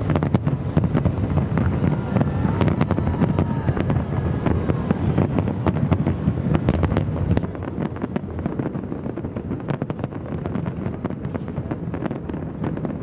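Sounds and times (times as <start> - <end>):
wind buffeting a microphone: 0.0 - 13.0.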